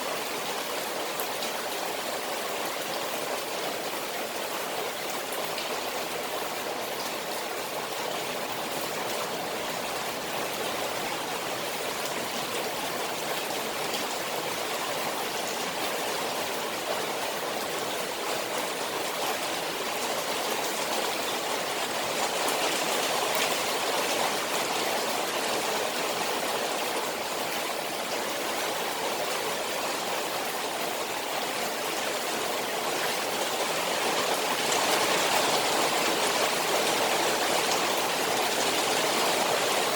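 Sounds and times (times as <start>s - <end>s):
rain falling on a pond: 0.0s - 39.9s.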